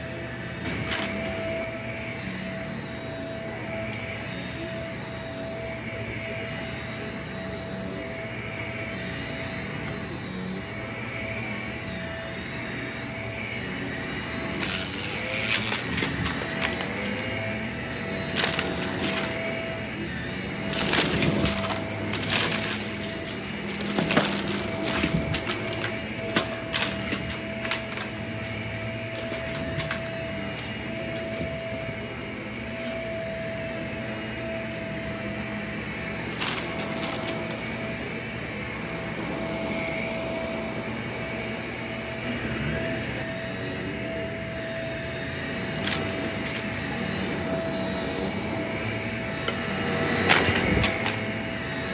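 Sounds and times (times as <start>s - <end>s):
vacuum cleaner motor whine: 0.0s - 51.9s.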